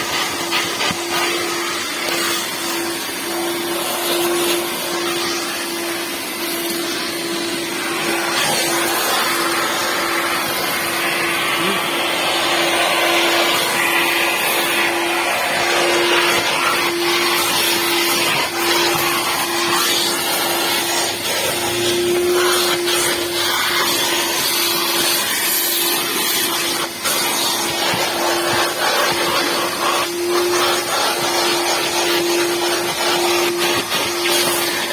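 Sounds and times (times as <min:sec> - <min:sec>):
small electric motor running: 0:00.0 - 0:34.9.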